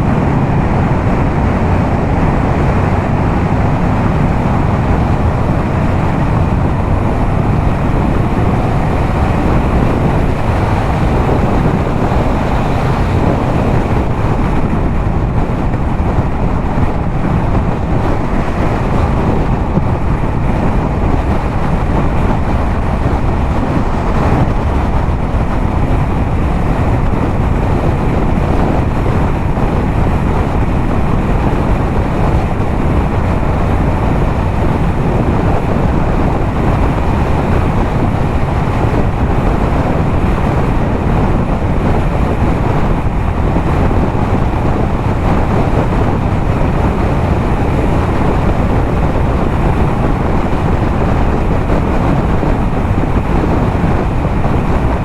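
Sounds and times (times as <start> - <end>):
motorcycle engine cruising: 0.0 - 55.0
wind buffeting microphone: 0.0 - 55.0.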